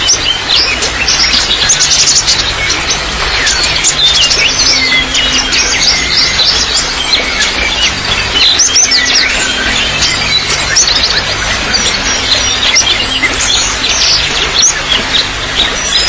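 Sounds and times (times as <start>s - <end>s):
small birds chirping and whistling: 0.0s - 16.0s
trickle of running water: 0.0s - 16.0s.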